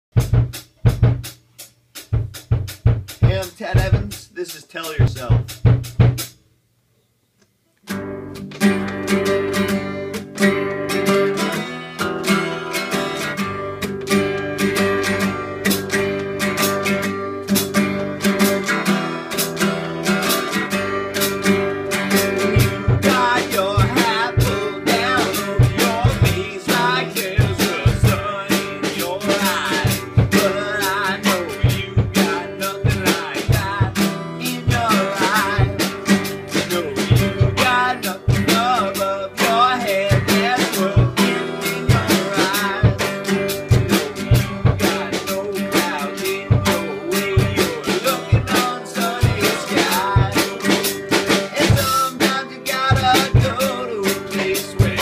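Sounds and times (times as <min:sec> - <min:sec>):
acoustic guitar strummed: 0:02.1 - 0:06.4, 0:07.8 - 0:55.0.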